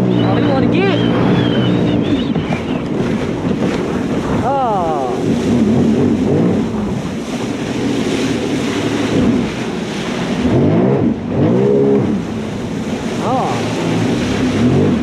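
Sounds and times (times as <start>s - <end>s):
jet ski engine: 0.0s - 15.0s
wind buffeting microphone: 0.0s - 15.0s.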